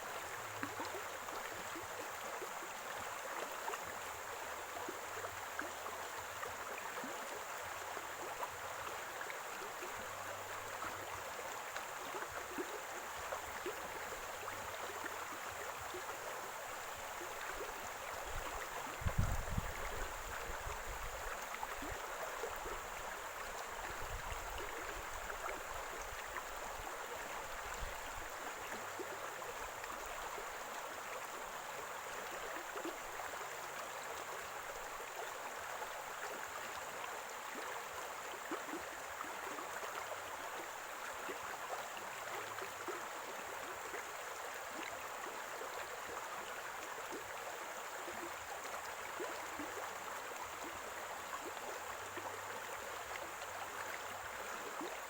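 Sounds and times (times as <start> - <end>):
stream gurgling over stones: 0.0 - 55.0.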